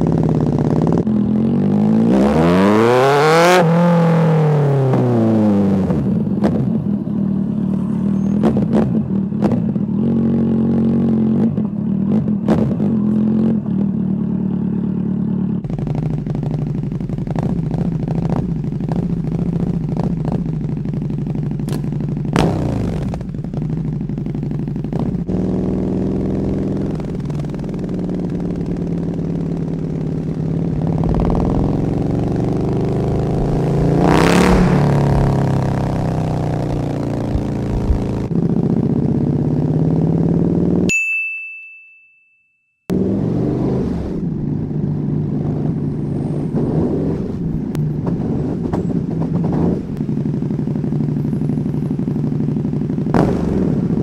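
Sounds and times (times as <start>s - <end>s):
motorcycle engine revving: 0.0s - 40.9s, 42.9s - 54.0s.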